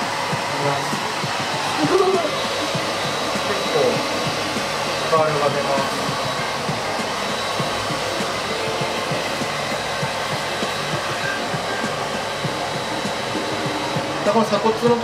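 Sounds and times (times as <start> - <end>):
hair dryer blowing: 0.0 - 15.0.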